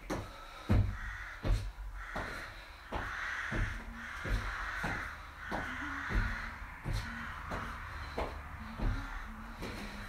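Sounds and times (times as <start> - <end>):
feet thumping on a box: 0.0 - 10.0.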